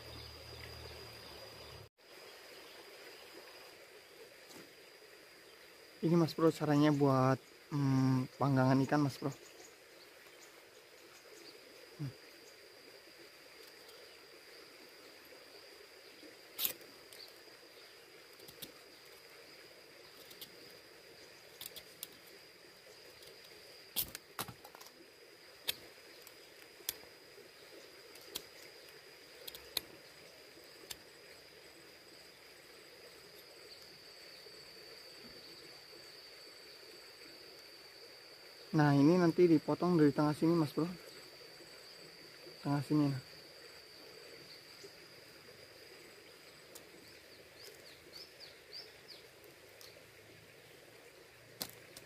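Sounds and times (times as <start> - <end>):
insect trill: 0.0 - 52.0
outdoor background noise: 0.0 - 52.0.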